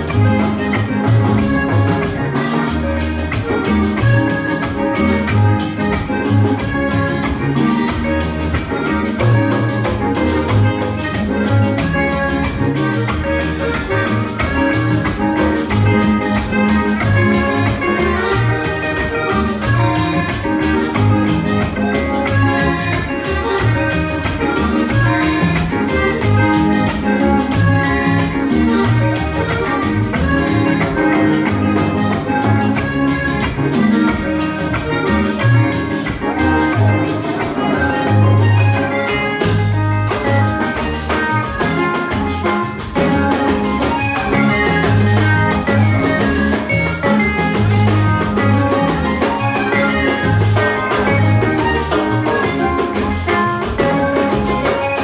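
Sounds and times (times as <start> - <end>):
drums and bass beat: 0.0 - 55.0
melody of quick pitched notes: 0.0 - 55.0.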